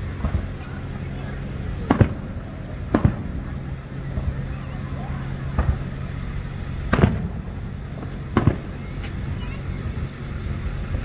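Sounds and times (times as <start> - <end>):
fireworks bursting with bangs: 0.0 - 11.0
steady low hum: 0.0 - 11.0.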